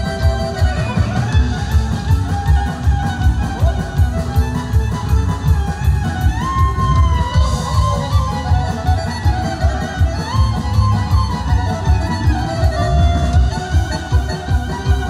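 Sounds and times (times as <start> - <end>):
bass guitar: 0.0 - 15.0
electric guitar: 0.0 - 15.0
steady drum beat: 0.0 - 15.0
violin melody: 0.0 - 15.0.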